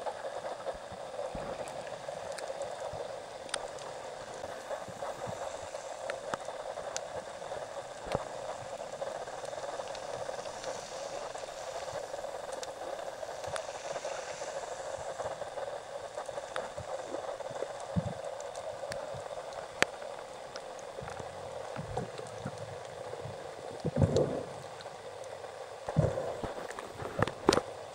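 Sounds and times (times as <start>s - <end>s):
underwater watery hiss: 0.0s - 27.9s.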